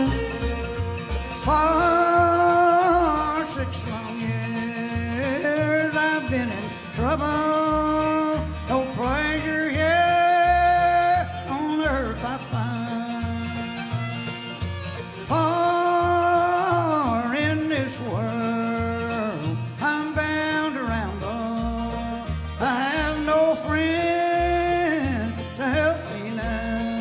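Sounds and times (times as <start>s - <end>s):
person singing: 0.0s - 14.0s, 15.2s - 27.0s
string band with plucked bass: 0.0s - 27.0s.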